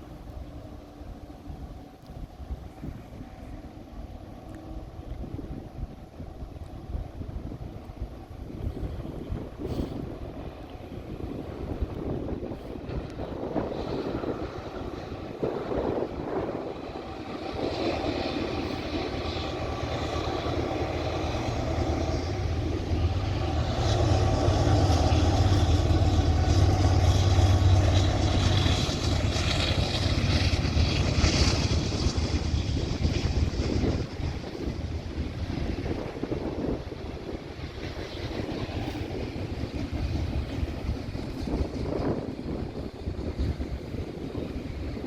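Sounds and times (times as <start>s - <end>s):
diesel locomotive rumble: 0.0s - 45.0s.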